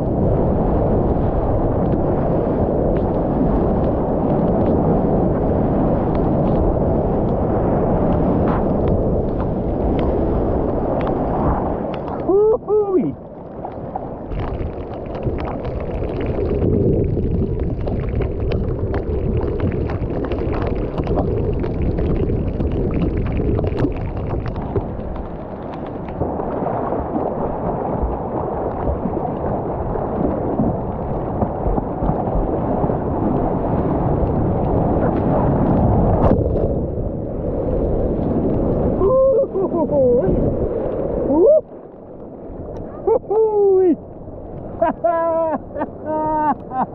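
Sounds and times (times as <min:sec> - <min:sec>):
seawater rushing and splashing: 0:00.0 - 0:46.9.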